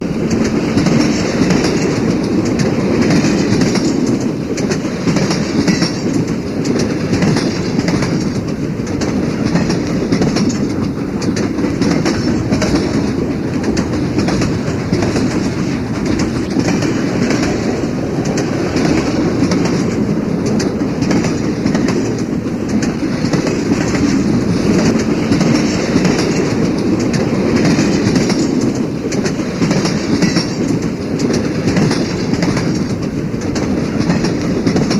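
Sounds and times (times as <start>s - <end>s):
moving train rumble: 0.0s - 34.9s
train wheels clattering: 0.0s - 34.9s.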